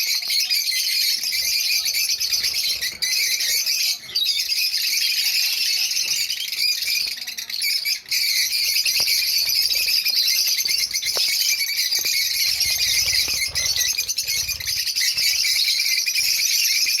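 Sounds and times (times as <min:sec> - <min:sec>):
flock of small birds chirping: 0:00.0 - 0:17.0.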